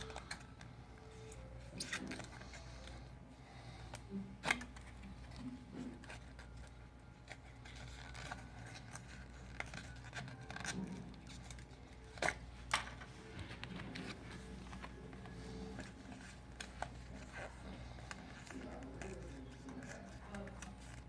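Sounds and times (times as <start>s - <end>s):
card scraping and rustling: 0.0s - 3.1s, 3.7s - 21.0s.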